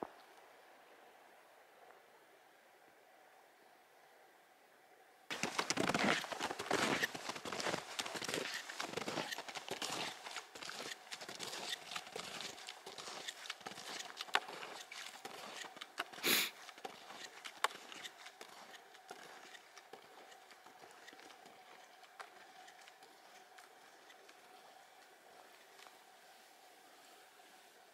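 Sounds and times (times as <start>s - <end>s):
footsteps crunching in snow: 5.3s - 27.8s.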